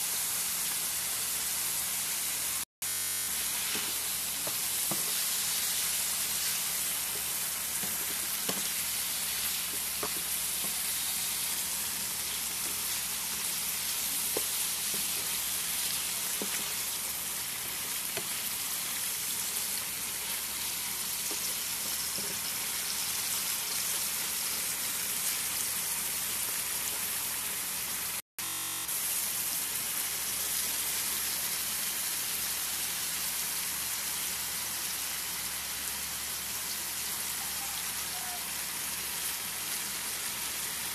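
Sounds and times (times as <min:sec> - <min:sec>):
chicken sizzling in oil: 0:00.0 - 0:40.9.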